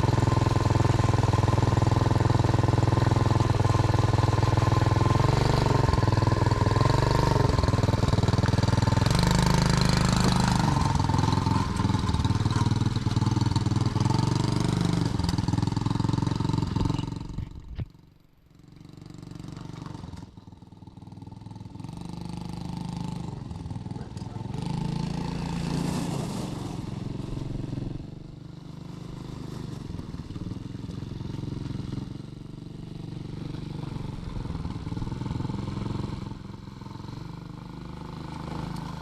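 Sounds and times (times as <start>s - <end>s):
atv engine revving: 0.0s - 18.0s, 18.6s - 39.0s.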